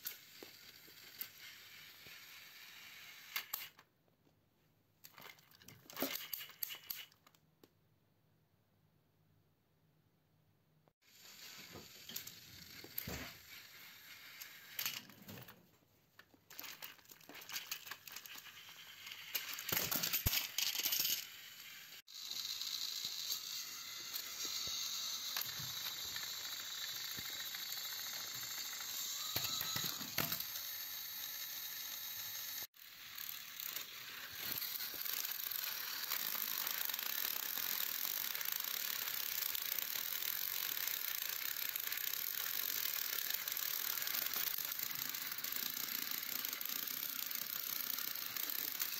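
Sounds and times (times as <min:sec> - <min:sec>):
toy trains clattering on plastic track: 0:00.0 - 0:03.8, 0:05.0 - 0:07.3, 0:11.2 - 0:15.5, 0:16.5 - 0:48.9
toy train motor whirring: 0:00.0 - 0:03.9, 0:05.0 - 0:07.3, 0:11.0 - 0:15.5, 0:16.2 - 0:48.9.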